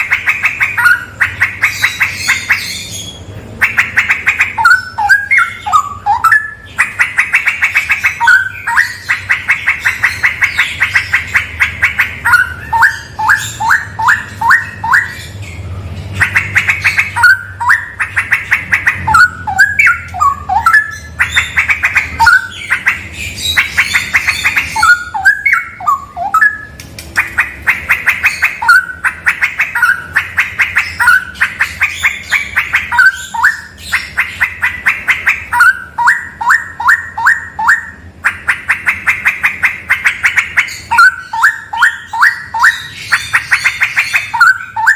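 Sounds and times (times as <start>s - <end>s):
bulbul singing: 0.0s - 44.9s.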